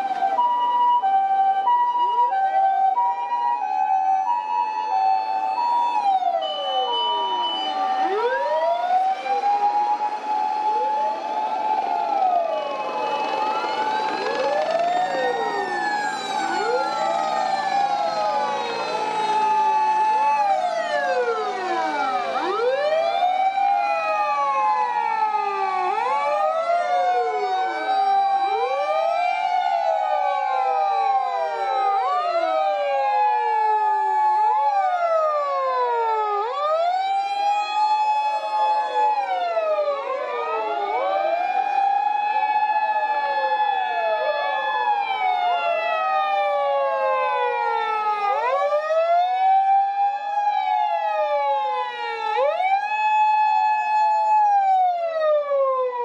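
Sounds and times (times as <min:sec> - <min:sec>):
overlapping emergency sirens: 0:00.0 - 0:56.0.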